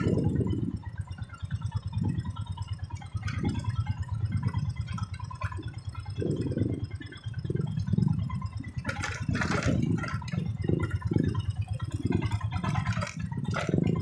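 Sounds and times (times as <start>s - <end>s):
motorcycle engine rumble: 0.0s - 14.0s.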